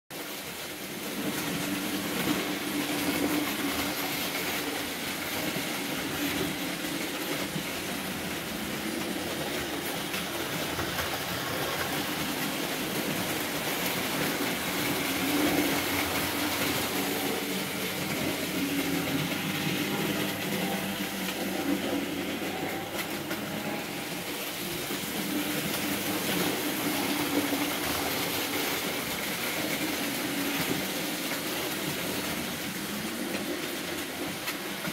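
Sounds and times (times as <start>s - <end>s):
wheels rattling over rails: 0.2s - 34.9s.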